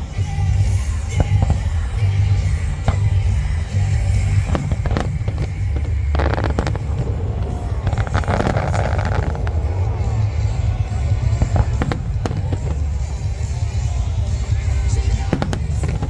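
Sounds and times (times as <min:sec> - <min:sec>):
crackling firework shells: 0:00.0 - 0:16.0
fireworks bangs: 0:00.0 - 0:16.0
low rumble: 0:00.0 - 0:16.0.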